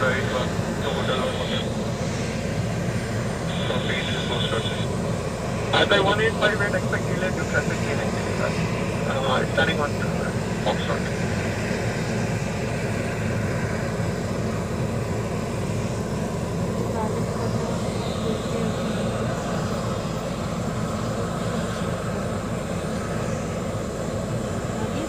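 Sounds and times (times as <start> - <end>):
muffled aircraft engine rumble: 0.0 - 25.0.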